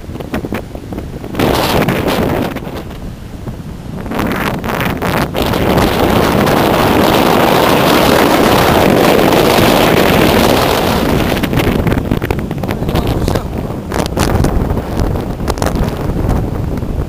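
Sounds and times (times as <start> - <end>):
rough surf: 0.0 - 17.0
strong wind buffeting microphone: 0.0 - 17.0.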